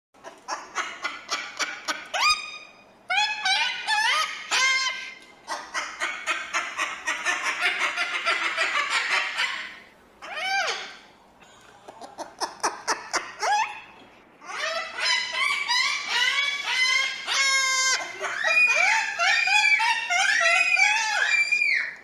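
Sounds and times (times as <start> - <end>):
cockatoo calling: 0.2 - 11.1, 11.9 - 22.0.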